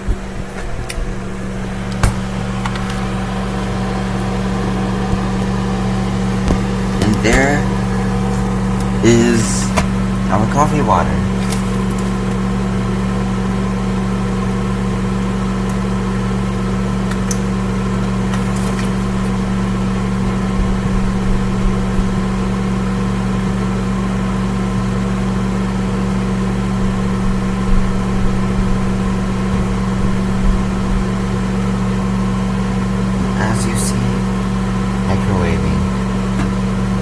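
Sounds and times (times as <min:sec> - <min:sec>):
fan whirring: 0:00.0 - 0:37.0
microwave oven humming: 0:00.0 - 0:37.0.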